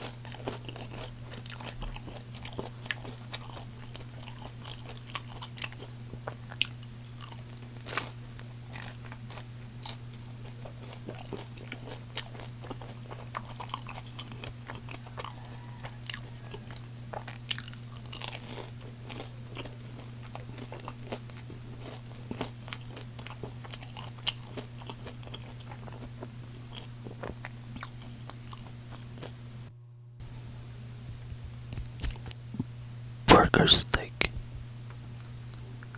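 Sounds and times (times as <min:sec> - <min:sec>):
crunchy chewing: 0:00.0 - 0:29.6, 0:31.2 - 0:32.8
steady low hum: 0:00.0 - 0:35.9.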